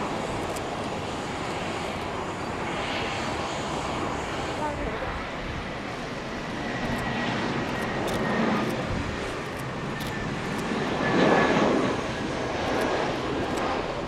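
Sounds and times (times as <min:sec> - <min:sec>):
jet airliner flying low: 0:00.0 - 0:14.0.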